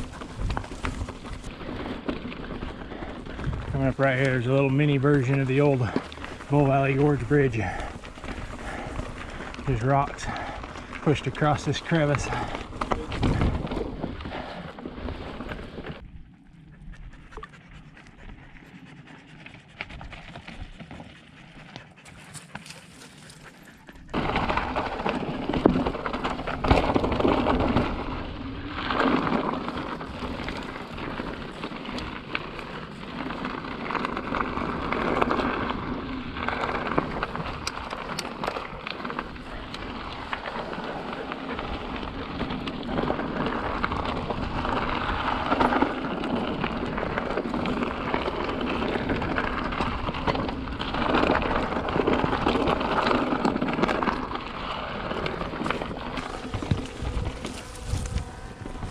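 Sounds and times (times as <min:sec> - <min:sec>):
wind buffeting microphone: 0:00.0 - 0:10.9, 0:11.5 - 0:18.6, 0:25.7 - 0:58.9
bike tyre rumble: 0:00.0 - 0:58.9.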